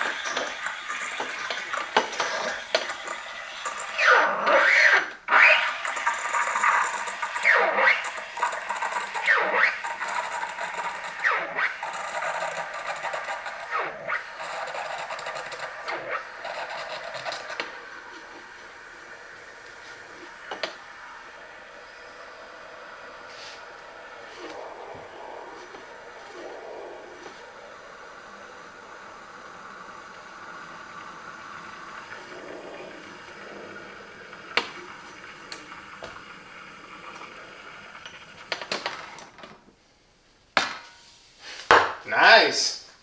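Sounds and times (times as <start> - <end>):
espresso steam wand hissing: 0.0 - 39.3.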